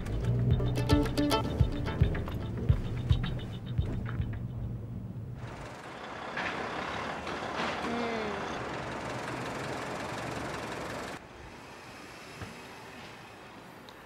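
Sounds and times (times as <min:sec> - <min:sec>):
traffic with trucks: 0:00.0 - 0:14.0.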